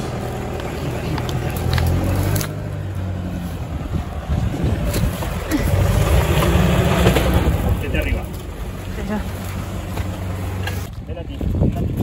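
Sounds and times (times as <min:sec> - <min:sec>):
diesel engine working under load: 0:00.0 - 0:12.0
tyres spinning in sand: 0:00.1 - 0:10.8.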